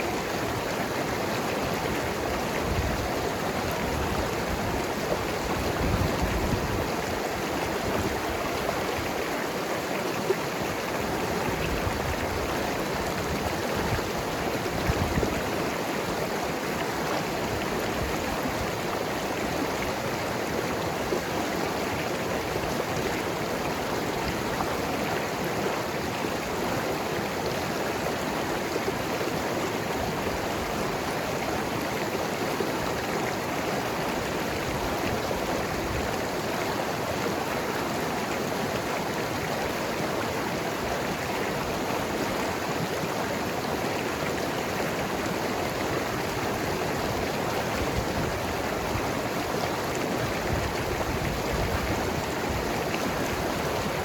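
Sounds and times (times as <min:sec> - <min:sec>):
river flowing over rocks: 0:00.0 - 0:54.0.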